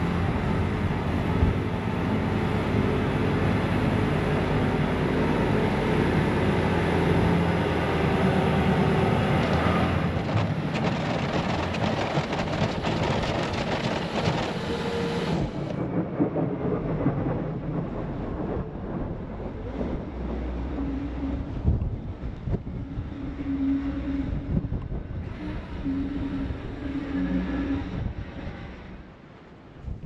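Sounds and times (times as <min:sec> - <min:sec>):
track loader with snowblower running: 0:00.0 - 0:17.3, 0:19.2 - 0:30.0.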